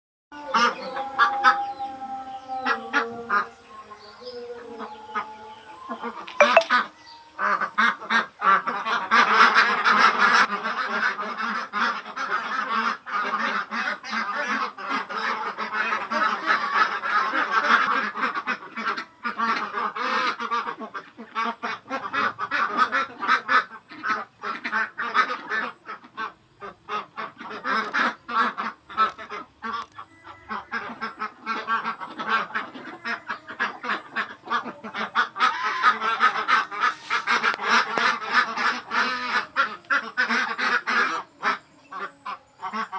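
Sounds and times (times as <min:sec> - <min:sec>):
flock of ducks quacking: 0:00.4 - 0:01.8, 0:07.3 - 0:42.9.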